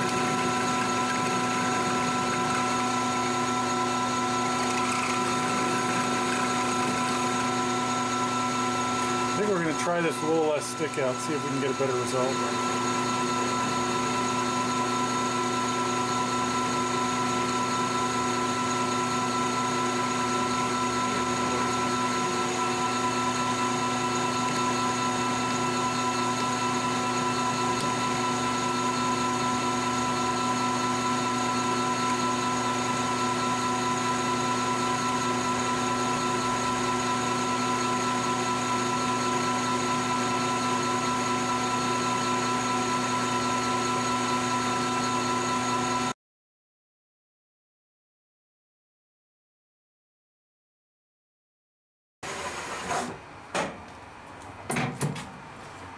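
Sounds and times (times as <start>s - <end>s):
metal lathe whine: 0.0s - 46.2s.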